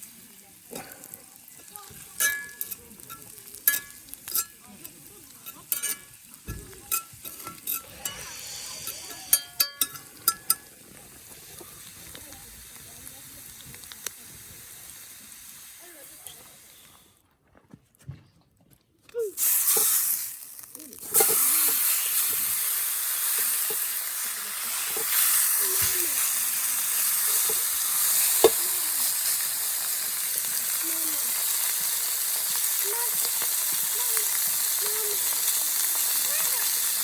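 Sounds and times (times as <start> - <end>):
food sizzling in a skillet: 0.0 - 17.1, 19.2 - 37.0.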